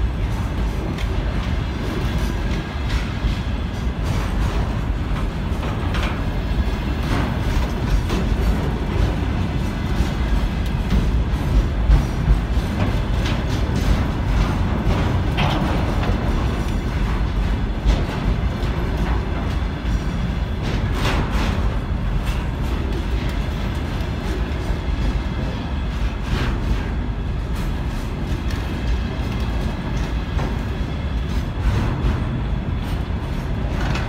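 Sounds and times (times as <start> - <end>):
freight train wheels rumbling: 0.0 - 34.0
wheel clicks and clanks: 0.2 - 6.4, 7.0 - 34.0.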